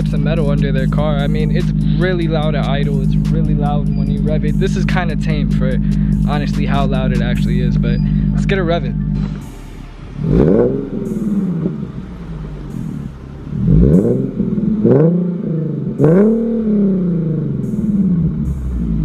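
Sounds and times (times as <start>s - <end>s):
car engine idling: 0.0s - 19.0s
car engine revving: 0.0s - 19.0s.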